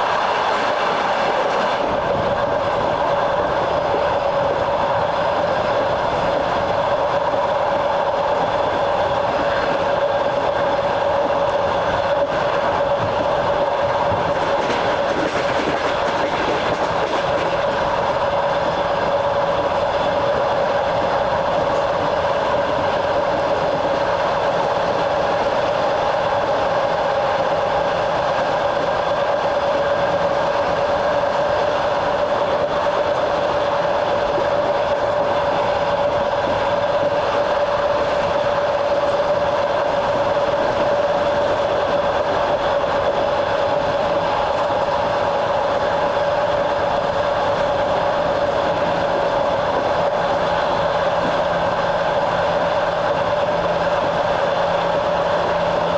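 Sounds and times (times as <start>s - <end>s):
train wheels rolling on rails: 0.0s - 55.9s.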